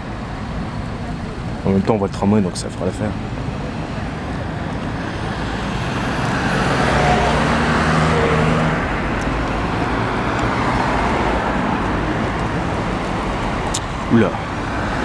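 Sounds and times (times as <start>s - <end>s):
steady low rumble: 0.0s - 6.9s, 8.2s - 15.0s
vehicle engine passing: 2.7s - 15.0s.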